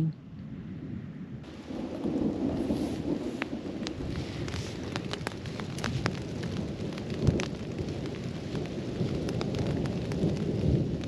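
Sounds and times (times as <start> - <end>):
rumbling thunder: 1.3 - 11.0
raindrops tapping on tent: 1.4 - 11.0.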